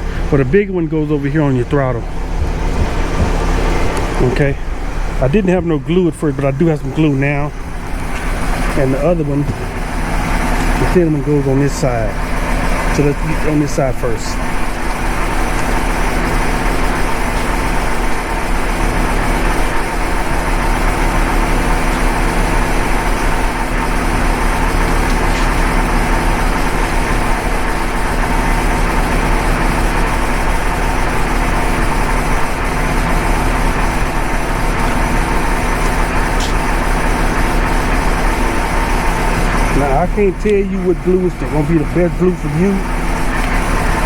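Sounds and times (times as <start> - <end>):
low hum: 0.0 - 44.0
mechanical drone: 0.0 - 44.0.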